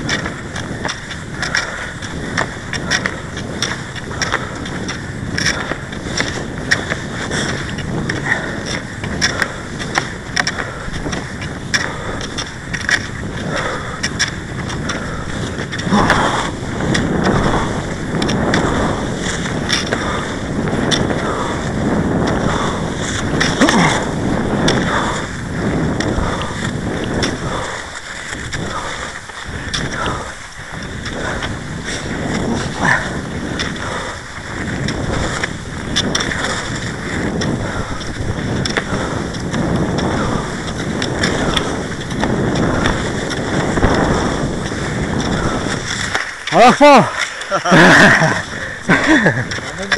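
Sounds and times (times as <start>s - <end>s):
skis scraping in snow track: 0.0s - 49.9s
wind noise on microphone: 0.0s - 49.9s.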